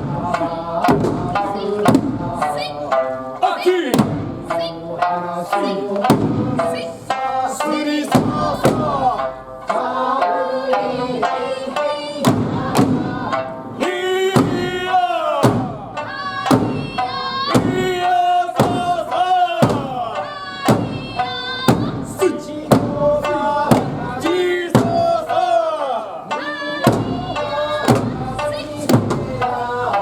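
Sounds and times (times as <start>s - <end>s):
drum strikes: 0.0s - 30.0s
folk song with singing: 0.0s - 30.0s.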